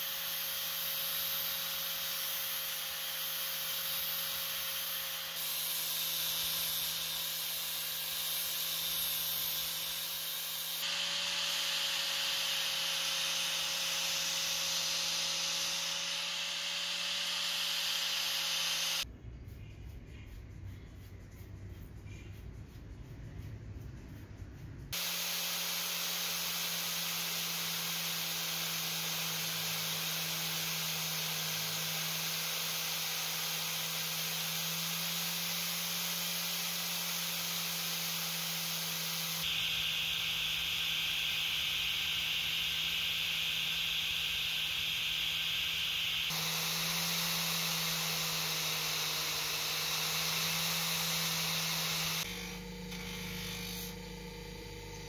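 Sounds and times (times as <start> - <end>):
buffing wheel motor hum: 0.0 - 19.0, 25.0 - 55.0
polishing hiss: 0.0 - 19.0, 25.0 - 52.3
angle grinder running: 0.0 - 19.1, 24.9 - 55.0.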